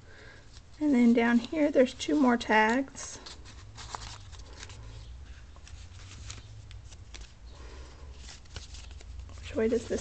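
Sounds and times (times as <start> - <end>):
paper rustling and sliding: 1.4 - 10.0.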